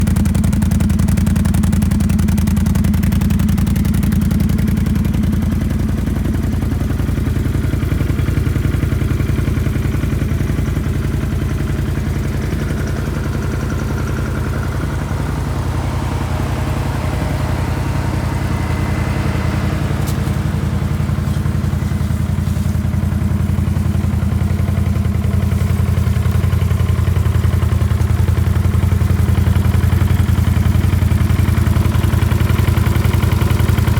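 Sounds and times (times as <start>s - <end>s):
engine idling: 0.0s - 33.9s
faint engine knock: 0.0s - 33.9s.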